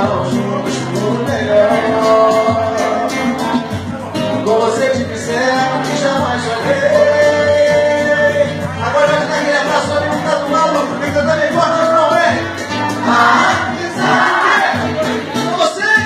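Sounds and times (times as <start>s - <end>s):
acoustic guitar: 0.0s - 16.0s
man singing: 0.0s - 16.0s.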